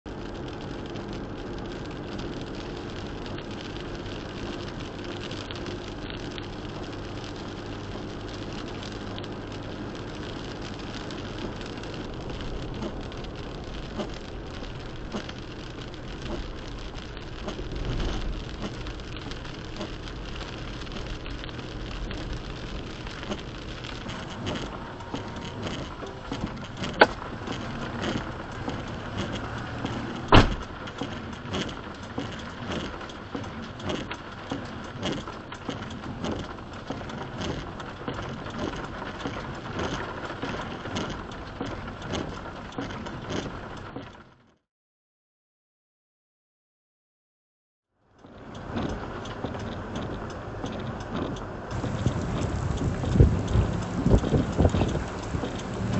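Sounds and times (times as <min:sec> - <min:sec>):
car driving rumble: 0:00.1 - 0:44.1, 0:48.2 - 0:55.9
rain on a car: 0:00.1 - 0:44.6, 0:48.1 - 0:55.9.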